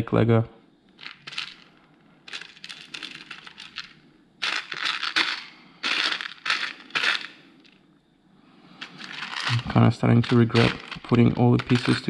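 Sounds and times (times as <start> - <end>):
plastic bricks rattling: 1.0 - 7.8, 8.8 - 12.0.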